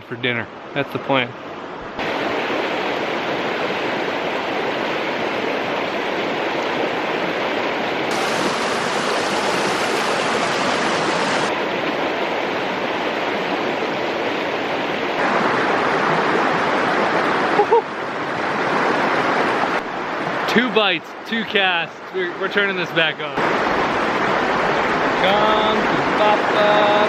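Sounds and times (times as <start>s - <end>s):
creek water running: 2.0s - 27.0s.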